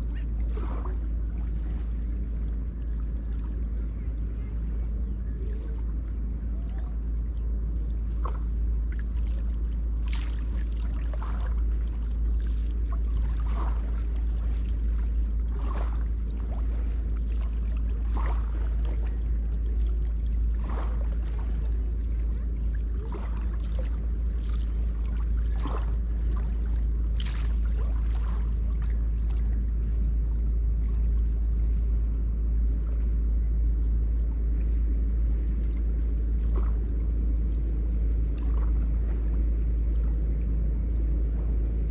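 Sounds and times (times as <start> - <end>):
low rumble: 0.0 - 41.9
waves lapping against bank: 0.0 - 41.9.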